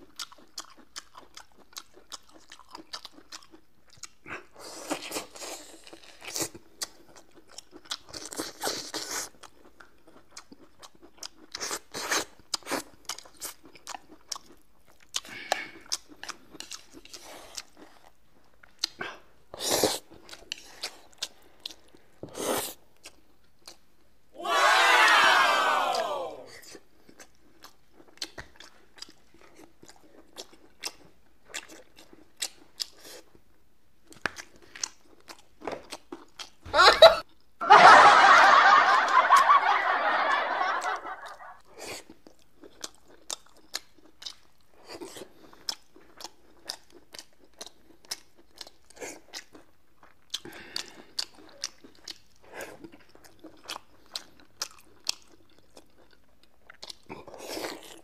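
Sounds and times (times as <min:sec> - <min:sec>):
wet chewing and mouth smacks: 0:00.0 - 0:24.1, 0:25.9 - 0:36.6, 0:40.7 - 0:58.0.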